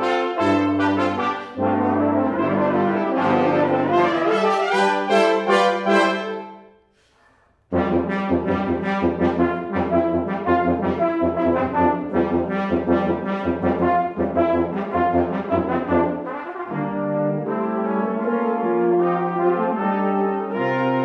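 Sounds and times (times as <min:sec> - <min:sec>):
brass quintet playing: 0:00.0 - 0:06.8, 0:07.7 - 0:21.0.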